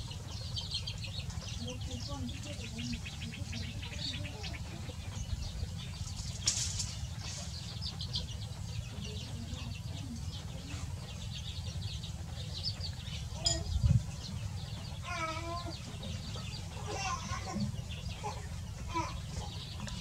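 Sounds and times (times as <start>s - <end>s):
chicks peeping: 0.0s - 20.0s
hen clucking: 0.0s - 20.0s.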